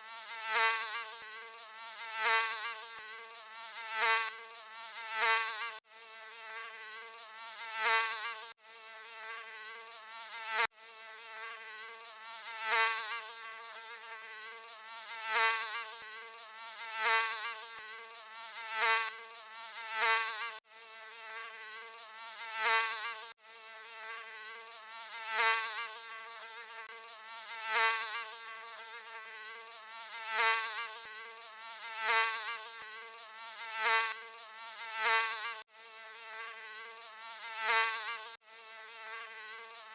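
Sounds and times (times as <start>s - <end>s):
mosquito buzzing: 0.0s - 39.9s.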